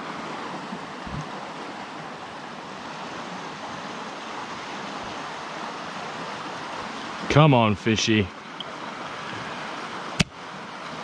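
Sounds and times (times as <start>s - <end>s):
fast-flowing stream rushing: 0.0s - 11.0s.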